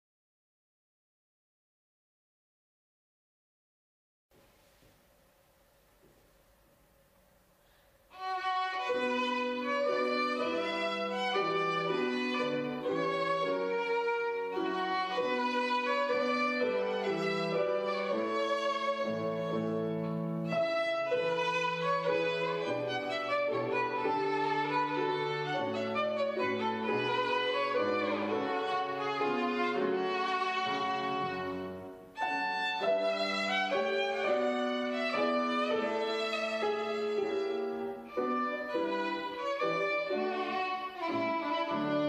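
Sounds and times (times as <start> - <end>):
piano accompaniment: 8.0 - 42.0
bowed violin notes: 8.1 - 42.0.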